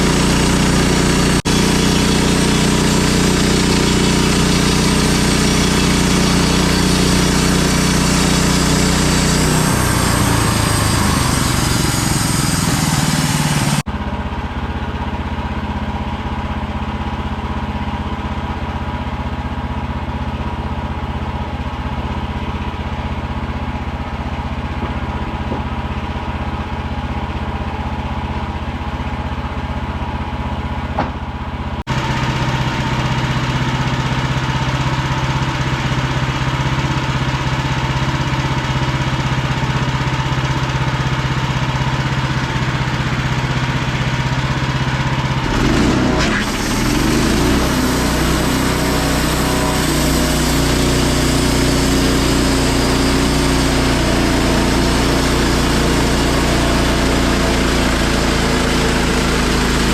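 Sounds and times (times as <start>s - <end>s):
gas engine running: 0.0s - 59.9s.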